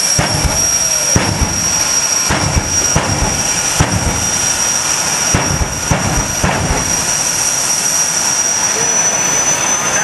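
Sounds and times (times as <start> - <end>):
sharp cracks: 0.0 - 8.1
jet engine whine and rush: 0.0 - 10.0.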